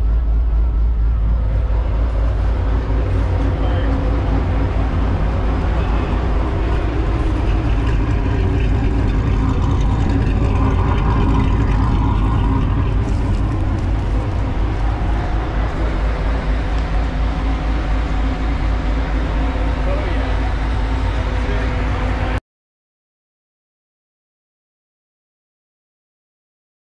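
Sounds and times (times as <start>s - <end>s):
car engine at high revs: 0.0s - 22.4s.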